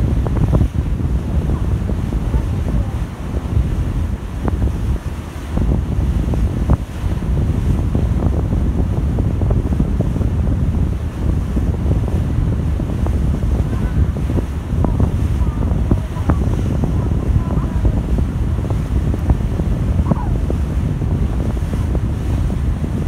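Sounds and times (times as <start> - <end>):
water washing along hull: 0.0 - 23.0
wind buffeting microphone: 0.0 - 23.0.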